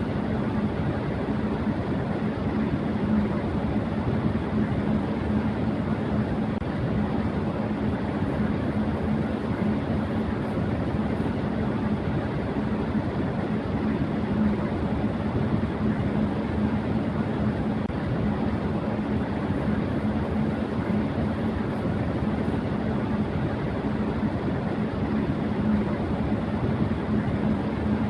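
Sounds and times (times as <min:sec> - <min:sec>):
electric fan running: 0:00.0 - 0:28.0.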